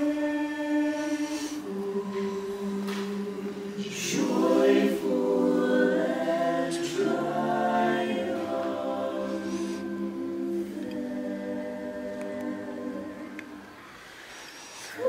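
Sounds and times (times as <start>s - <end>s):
mixed choir singing a cappella: 0.0s - 15.0s.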